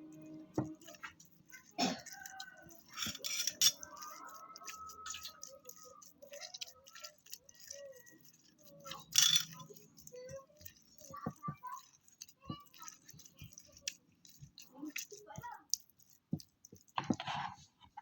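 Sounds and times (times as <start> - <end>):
small objects clicking and clattering: 0.5 - 17.4.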